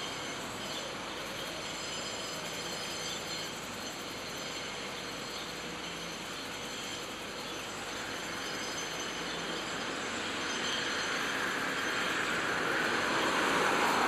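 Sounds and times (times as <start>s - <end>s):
machinery drone and hiss: 0.0s - 14.0s.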